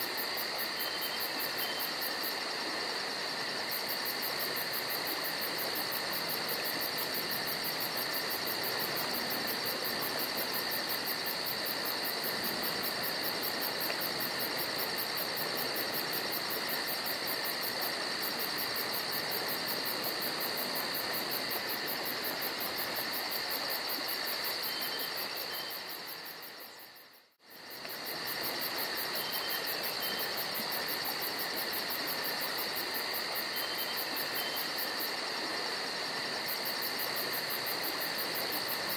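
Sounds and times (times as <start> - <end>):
rushing creek: 0.0 - 26.6, 27.5 - 38.9
crickets trilling: 0.0 - 38.9.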